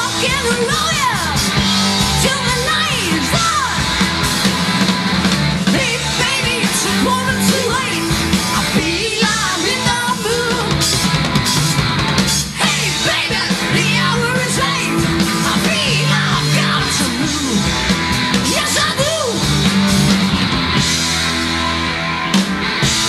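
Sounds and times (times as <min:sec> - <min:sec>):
electric guitar lead lines: 0:00.0 - 0:23.0
hard rock band playing live: 0:00.0 - 0:23.0.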